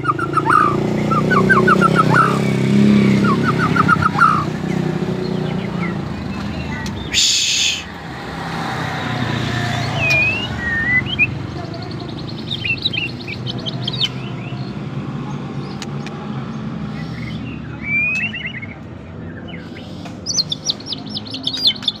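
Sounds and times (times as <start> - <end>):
songbird whistles and chirps: 0.0 - 8.0, 9.6 - 14.7, 16.9 - 22.0.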